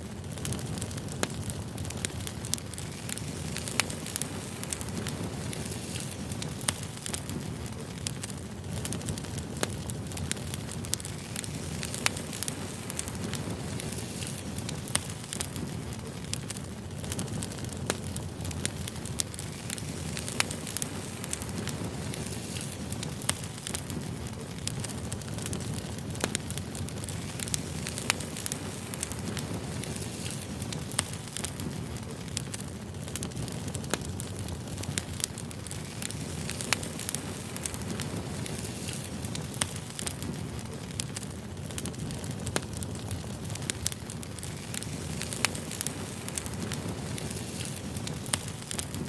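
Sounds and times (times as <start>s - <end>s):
firewood crackling and popping: 0.0s - 49.0s
low rumble of fire: 0.0s - 49.0s.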